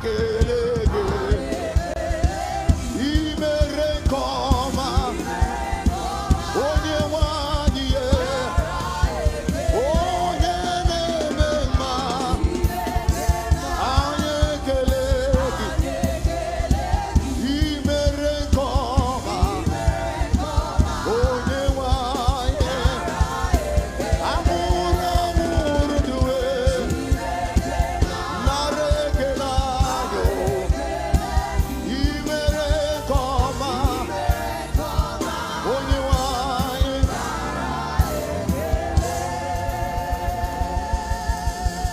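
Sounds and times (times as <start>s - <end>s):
band playing: 0.0s - 41.9s
gospel choir singing: 0.0s - 41.9s
steady drum beat: 0.0s - 41.9s.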